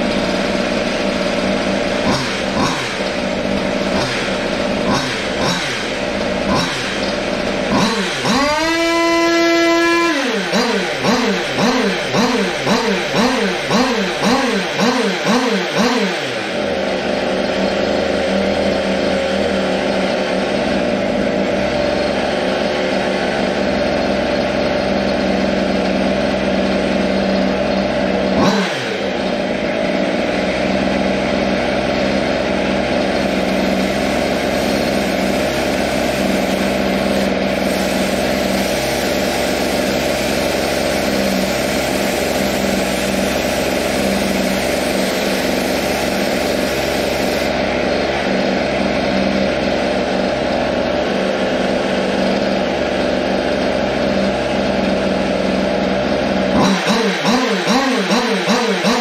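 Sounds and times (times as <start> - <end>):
two-stroke engine revving high: 0.0 - 59.0.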